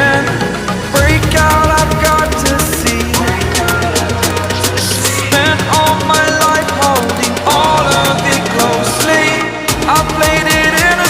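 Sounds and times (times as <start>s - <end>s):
song with drum beat and singing: 0.0s - 11.0s.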